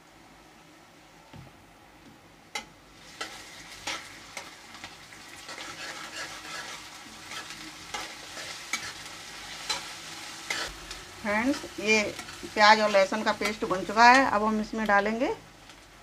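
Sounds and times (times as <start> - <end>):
onions sizzling in hot oil: 2.5 - 16.0.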